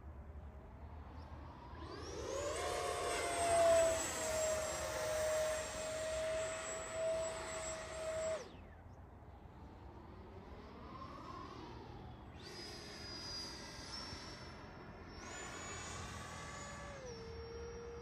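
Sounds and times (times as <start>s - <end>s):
model jet fan whine: 0.0s - 18.0s.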